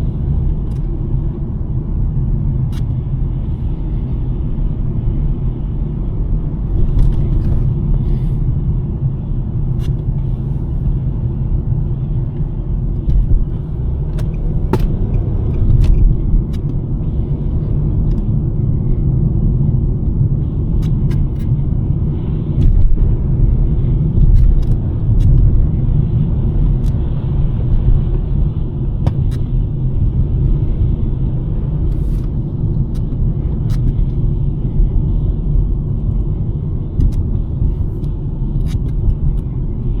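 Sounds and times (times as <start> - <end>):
car driving on snowy road: 0.0 - 40.0.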